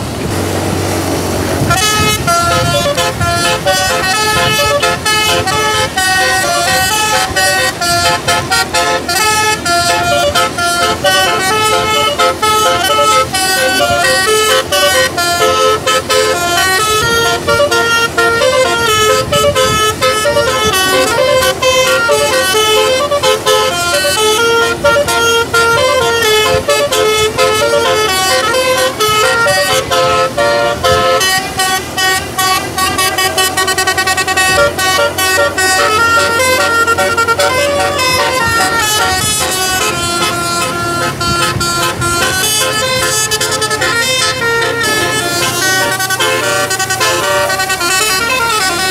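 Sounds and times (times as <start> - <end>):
musical air horn playing a tune: 1.4 - 48.9.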